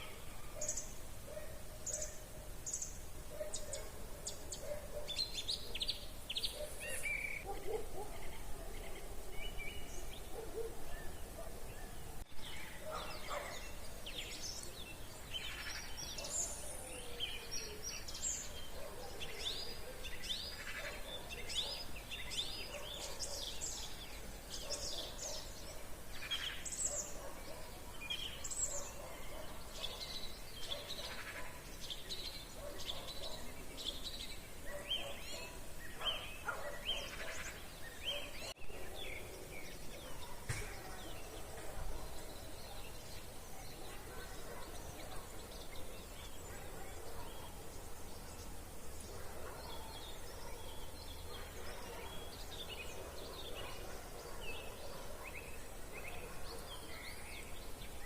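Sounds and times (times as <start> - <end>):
songbirds chorus: 0.0 - 58.0.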